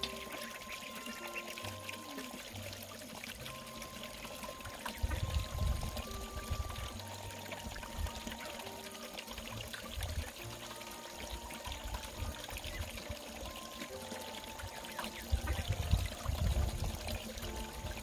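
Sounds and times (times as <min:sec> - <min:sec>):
water trickling: 0:00.0 - 0:18.0.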